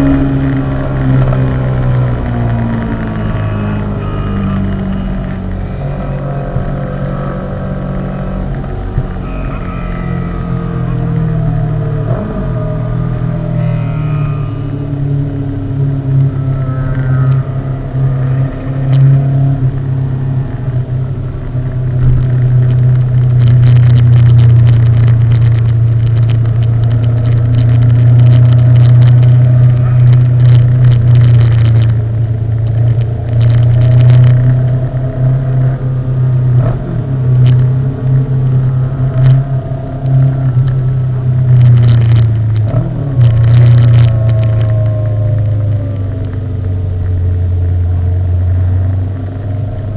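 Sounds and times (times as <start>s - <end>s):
crackling noise: 0.0s - 49.9s
vehicle droning on the move: 0.0s - 49.9s.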